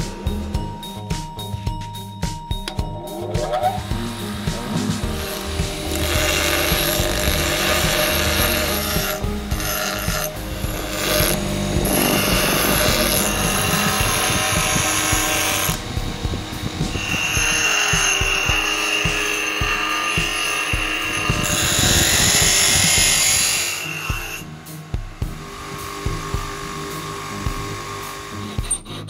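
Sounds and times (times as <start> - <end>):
bench grinder grinding steel: 3.1 - 29.0.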